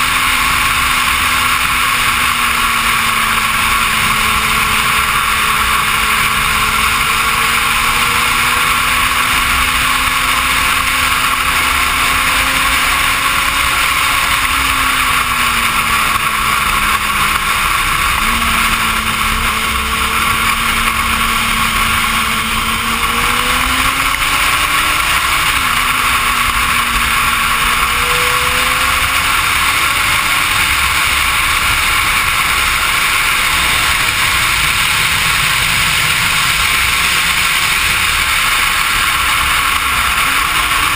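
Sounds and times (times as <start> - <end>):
motorcycle engine revving: 0.0 - 40.9
wind rush: 0.0 - 40.9.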